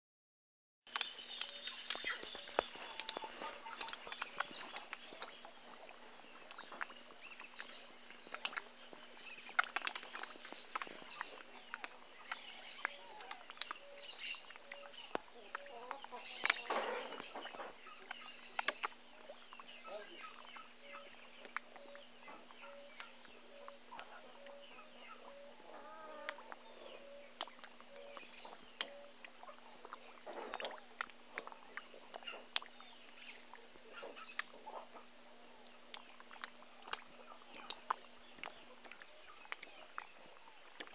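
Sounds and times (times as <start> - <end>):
fish gulping at water surface: 0.9 - 40.9.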